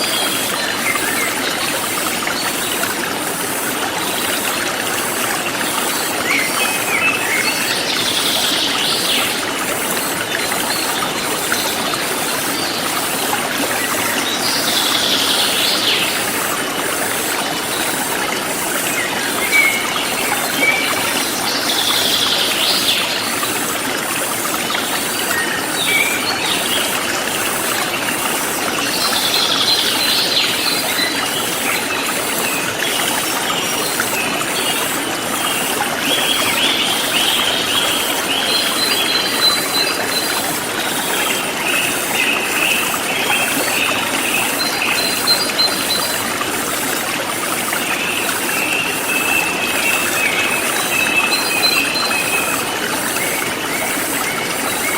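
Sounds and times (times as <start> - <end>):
forest stream flowing: 0.0 - 54.9.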